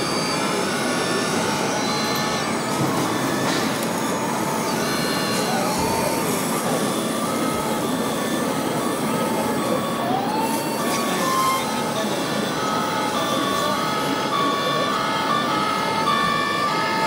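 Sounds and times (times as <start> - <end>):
crowd chatter: 0.0 - 17.0.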